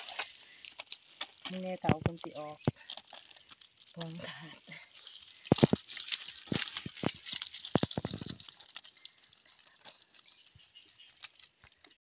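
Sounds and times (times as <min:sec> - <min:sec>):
net rustling: 0:00.0 - 0:12.0.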